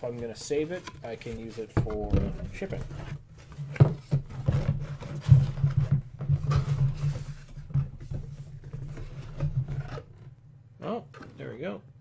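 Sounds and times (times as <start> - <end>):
cardboard rubbing and scraping: 0.0 - 10.3.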